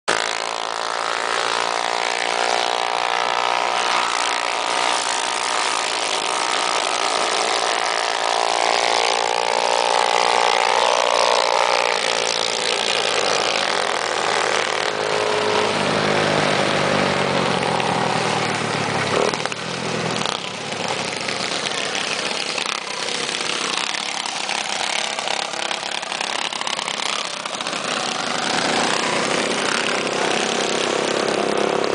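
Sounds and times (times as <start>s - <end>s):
mini bike engines revving: 0.1s - 31.9s.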